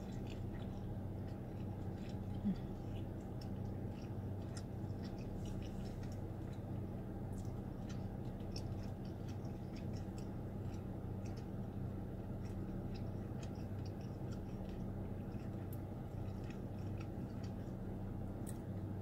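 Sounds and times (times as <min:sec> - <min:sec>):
crunchy chewing: 0:00.0 - 0:19.0
steady low hum: 0:00.0 - 0:19.0.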